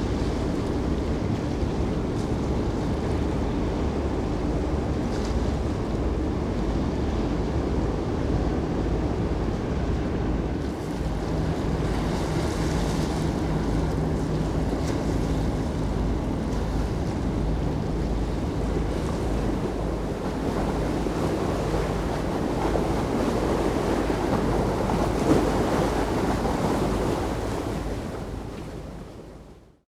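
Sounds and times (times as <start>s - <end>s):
ship engine rumble: 0.0s - 29.7s
water noise: 0.0s - 29.7s.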